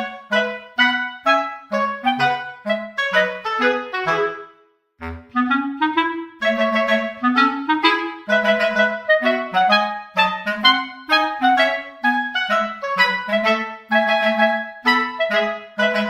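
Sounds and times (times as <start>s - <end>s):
melody of short detached notes: 0.0s - 16.0s.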